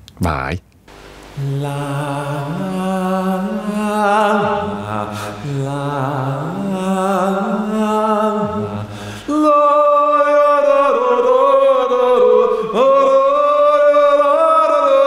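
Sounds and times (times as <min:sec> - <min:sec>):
chant-like vocal chords: 0:01.4 - 0:15.0.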